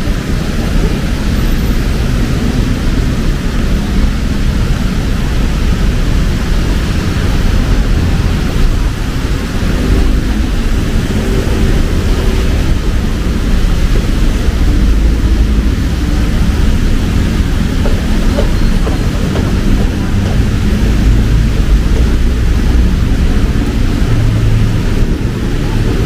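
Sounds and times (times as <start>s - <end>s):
heavy rain falling: 0.0s - 26.0s
road traffic: 0.0s - 26.0s.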